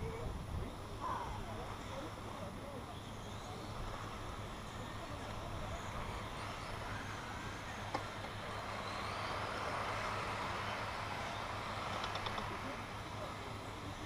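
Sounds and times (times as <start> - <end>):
rc trucks whirring on asphalt: 0.0 - 14.0.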